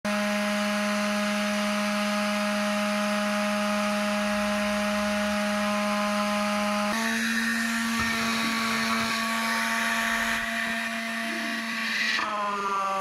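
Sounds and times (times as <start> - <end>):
small electric motor humming: 0.1 - 13.0.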